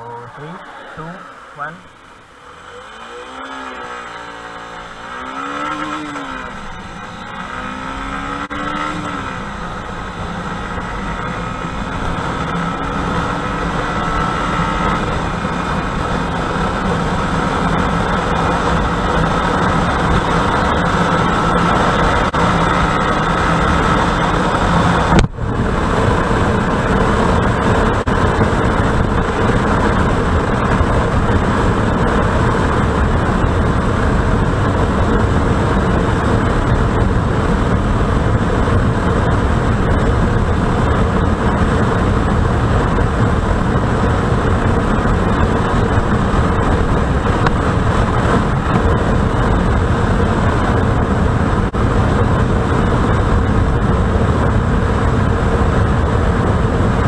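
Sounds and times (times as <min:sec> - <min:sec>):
motorcycle engine at full throttle: 0:00.0 - 0:57.0
wind rush on microphone: 0:05.4 - 0:57.0.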